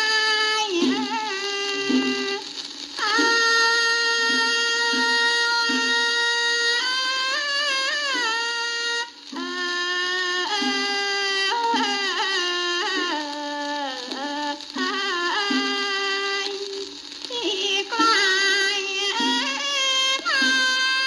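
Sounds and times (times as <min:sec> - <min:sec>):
record surface hiss: 0:00.0 - 0:21.0
woman singing: 0:00.0 - 0:21.0.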